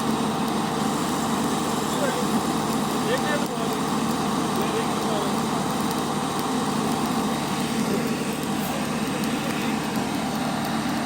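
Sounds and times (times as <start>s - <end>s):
engine running steadily: 0.0s - 11.0s
faint crackling: 0.0s - 11.0s.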